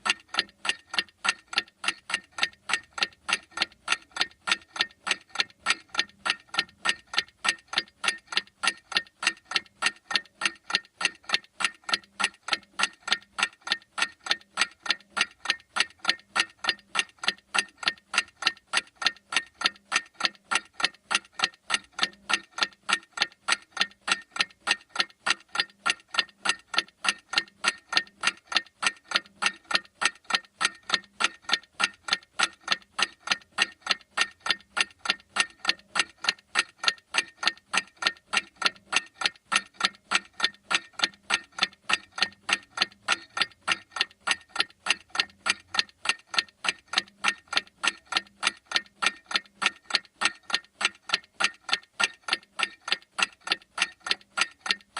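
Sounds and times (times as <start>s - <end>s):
clock ticking: 0.0s - 54.9s.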